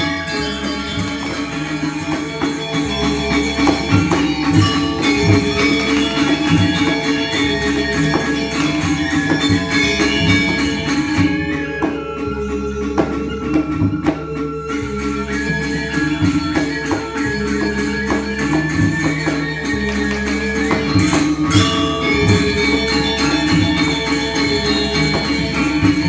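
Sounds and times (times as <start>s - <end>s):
drum strokes: 0.0s - 26.0s
metallophones ringing: 0.0s - 26.0s.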